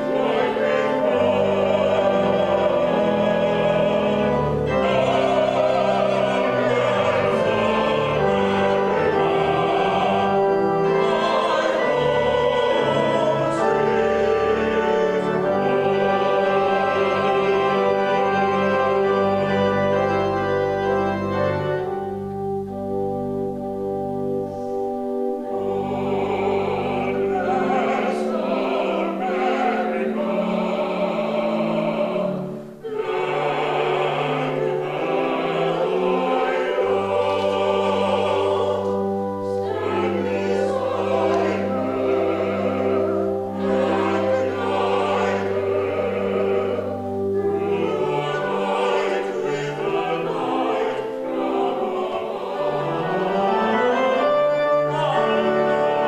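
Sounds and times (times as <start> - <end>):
organ chords: 0.0 - 56.0.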